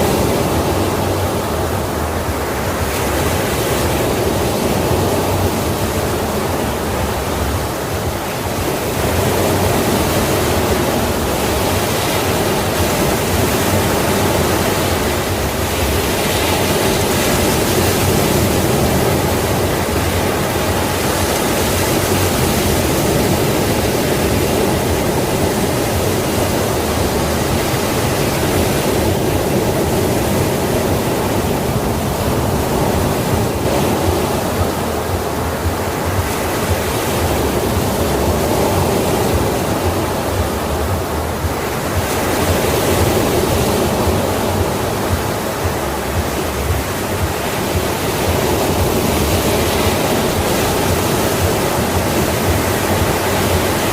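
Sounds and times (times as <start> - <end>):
ocean waves washing in: 0.0 - 53.9.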